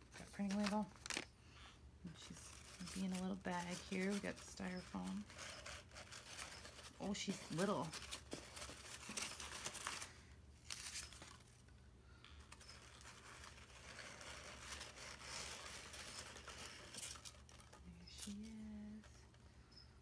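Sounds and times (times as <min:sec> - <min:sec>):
small clicks and crackles: 0:00.1 - 0:01.3, 0:02.1 - 0:19.4
packing foam rustling: 0:02.1 - 0:11.7, 0:12.4 - 0:19.1.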